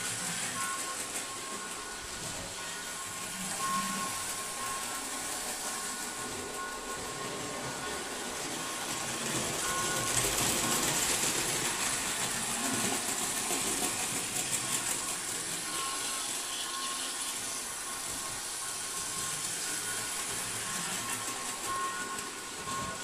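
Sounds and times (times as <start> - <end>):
model train whirring on track: 0.0 - 23.0.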